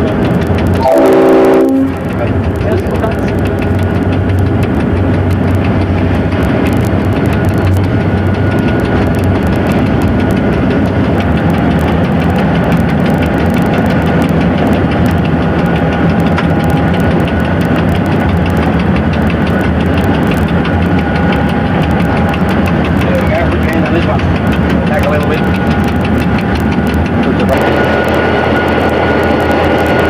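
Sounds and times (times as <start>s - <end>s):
diesel locomotive engine rumbling: 0.0s - 30.0s.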